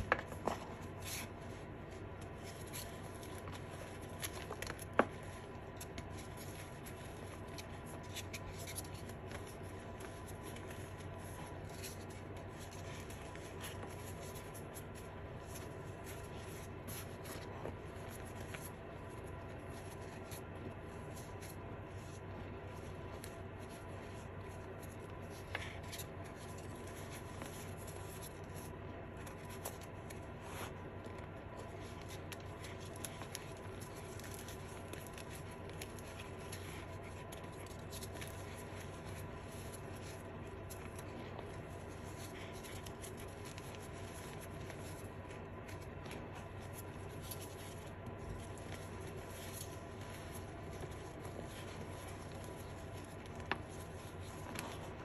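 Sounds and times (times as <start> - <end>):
fingers crumbling chalk: 0.0 - 55.0
low electrical hum: 0.0 - 55.0.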